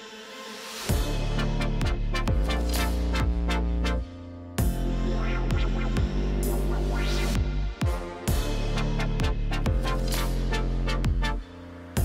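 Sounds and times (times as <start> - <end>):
electronic music with deep bass: 0.8 - 12.0.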